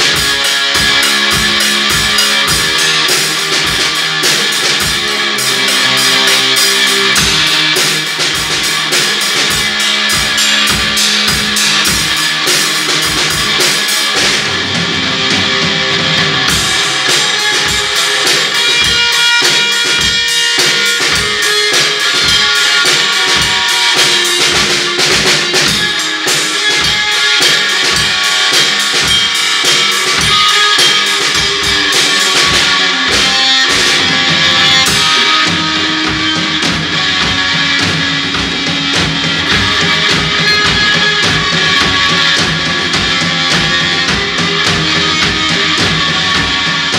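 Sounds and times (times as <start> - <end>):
bass guitar: 0.0 - 46.9
electric guitar: 0.0 - 46.9.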